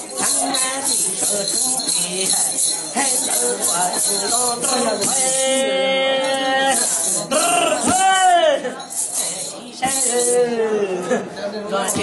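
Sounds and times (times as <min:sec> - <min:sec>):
bell rattle jingling: 0:00.0 - 0:10.5.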